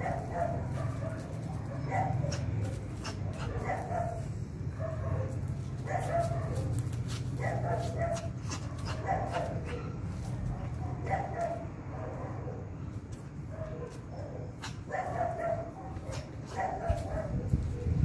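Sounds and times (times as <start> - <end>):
dog barking: 0.0 - 12.7, 13.5 - 18.0.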